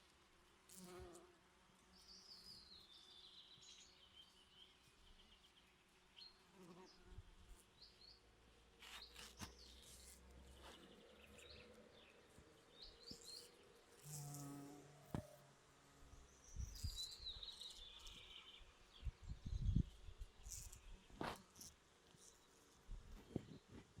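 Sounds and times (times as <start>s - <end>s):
faint buzzing of bees: 0.0s - 24.0s
songbirds chirping: 1.8s - 21.4s.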